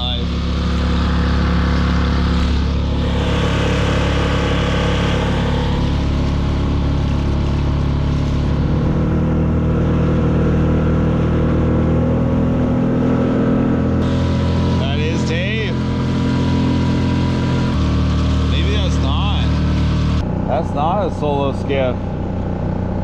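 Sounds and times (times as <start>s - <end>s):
outboard motor drone: 0.0s - 23.0s.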